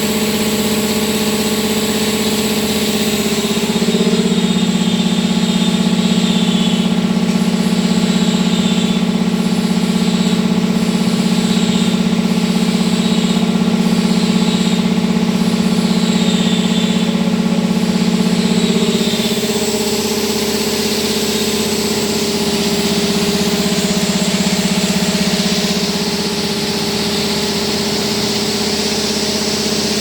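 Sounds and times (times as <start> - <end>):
machine mechanical hum: 0.0 - 30.0.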